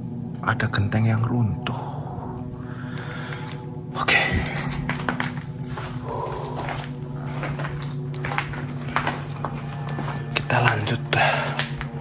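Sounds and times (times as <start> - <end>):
crickets chirping: 0.0 - 12.0
low steady hum: 0.0 - 12.0.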